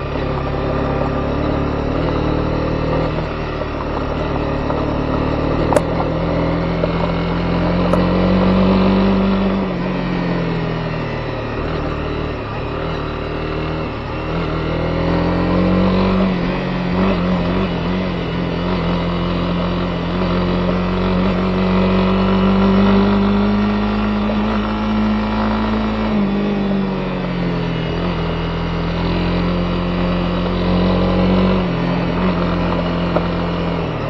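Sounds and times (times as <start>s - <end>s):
dirt road noise: 0.0s - 34.0s
motorcycle engine running: 0.0s - 34.0s.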